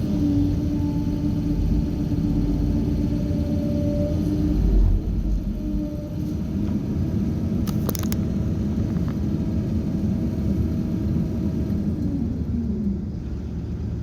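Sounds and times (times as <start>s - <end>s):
heavy machinery diesel engine rumbling: 0.0s - 14.0s.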